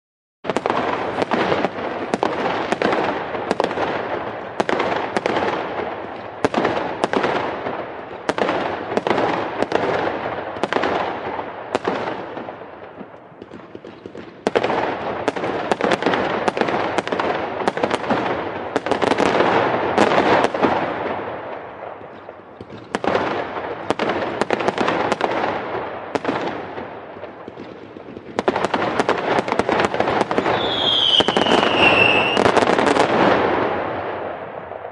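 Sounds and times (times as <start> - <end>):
fireworks bangs and crackling: 0.4 - 34.9.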